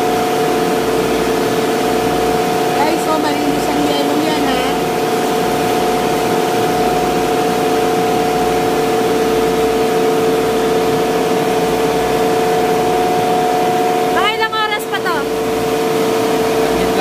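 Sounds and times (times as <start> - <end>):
machinery humming and whirring: 0.0 - 17.0.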